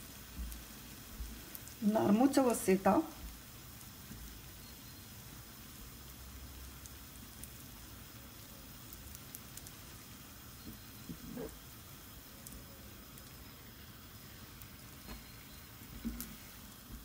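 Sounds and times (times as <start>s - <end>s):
dough sizzling in oil: 0.0s - 17.0s
small crackles: 0.0s - 17.0s.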